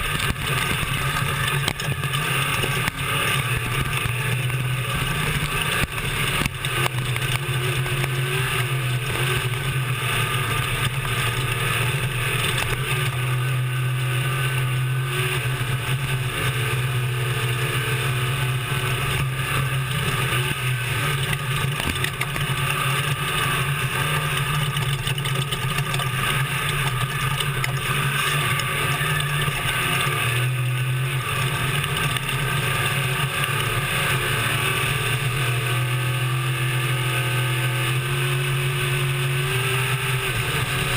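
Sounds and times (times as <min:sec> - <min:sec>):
constant rush of noise: 0:00.0 - 0:40.9
truck engine running hard: 0:00.0 - 0:40.9.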